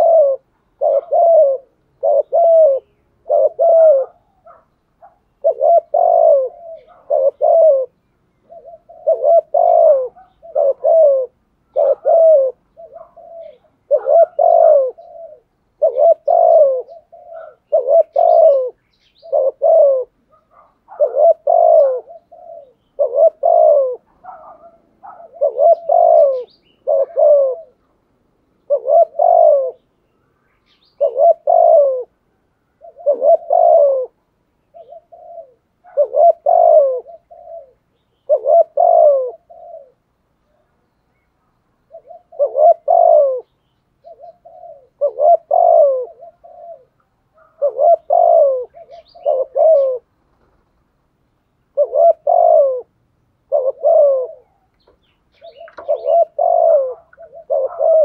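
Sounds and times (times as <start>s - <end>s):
dove cooing: 0.0s - 30.0s, 30.6s - 40.8s, 41.4s - 50.8s, 51.6s - 58.0s.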